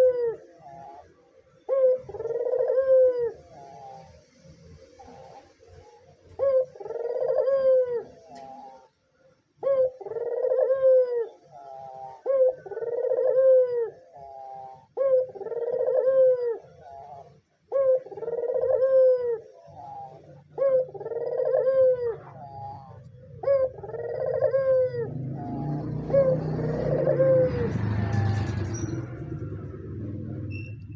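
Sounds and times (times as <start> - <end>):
dove cooing: 0.0 - 30.9.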